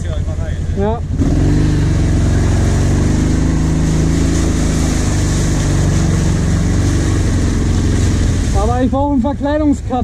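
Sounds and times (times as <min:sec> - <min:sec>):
quad engine droning: 0:00.0 - 0:10.0.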